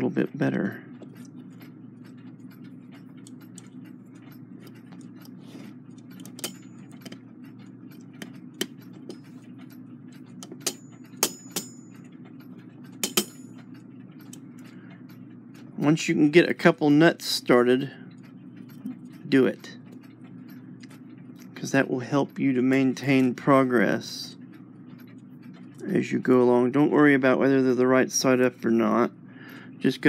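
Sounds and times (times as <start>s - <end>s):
steady low hum: 0.0s - 30.0s
metal clock parts clicking: 0.4s - 15.7s, 16.9s - 27.7s.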